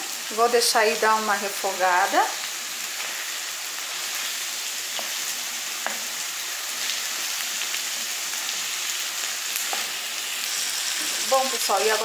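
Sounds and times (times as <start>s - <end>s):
sausage and onion sizzling: 0.0s - 12.0s.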